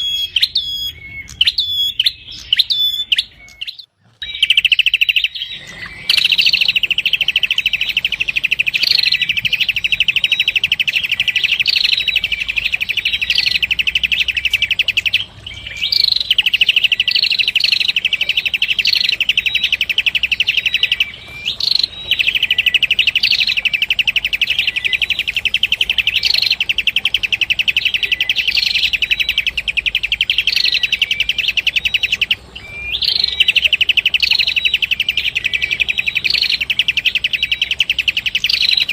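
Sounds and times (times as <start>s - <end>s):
songbird chattering trill: 0.0s - 38.9s.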